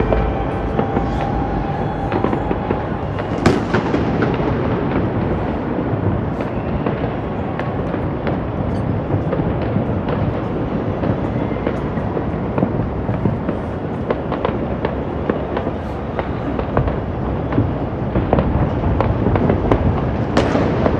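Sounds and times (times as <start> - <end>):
distant fireworks rumble: 0.0 - 20.9
firework cracks and pops: 0.0 - 20.9
loud firework bang: 0.0 - 20.9.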